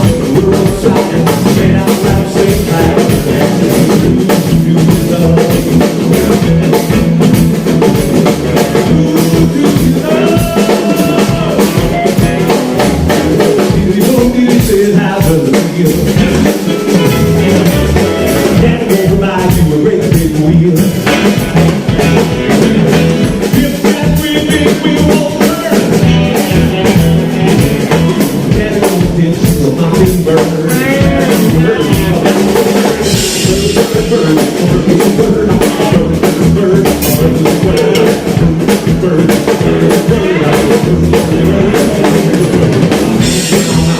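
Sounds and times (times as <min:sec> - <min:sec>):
drum kit: 0:00.0 - 0:43.9
guitar: 0:00.0 - 0:43.9
person singing: 0:00.0 - 0:43.9.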